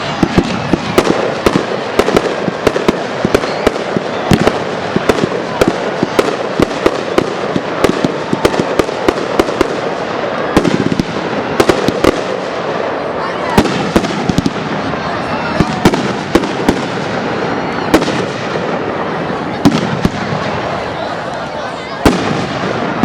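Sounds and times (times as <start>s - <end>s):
continuous noisy wash: 0.0s - 23.0s
fireworks bangs: 0.0s - 23.0s.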